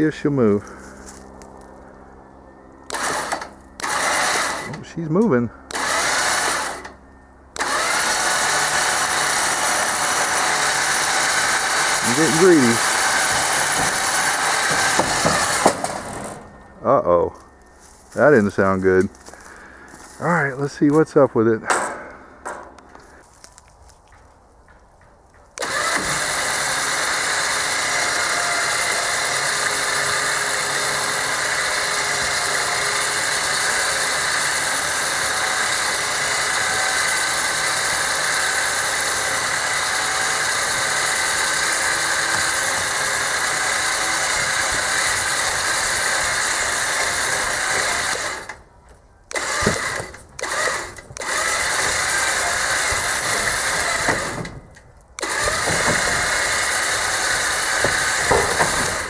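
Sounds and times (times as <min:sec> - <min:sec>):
winch motor running: 0:00.0 - 0:23.3, 0:25.6 - 0:59.0.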